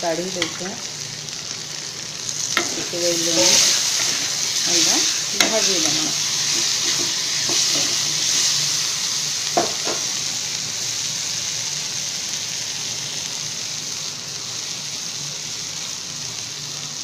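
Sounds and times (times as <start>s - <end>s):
food frying in oil: 0.0s - 17.0s.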